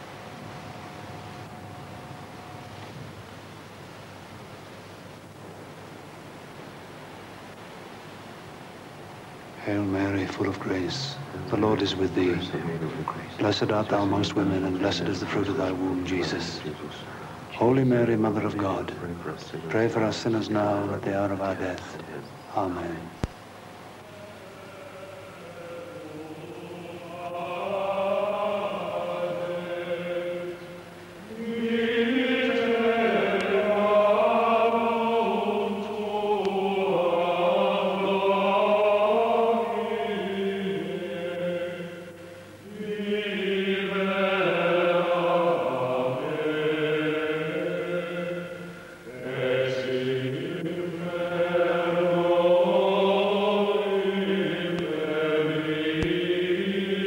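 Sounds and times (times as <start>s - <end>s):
voices singing a slow chant: 7.3s - 57.0s.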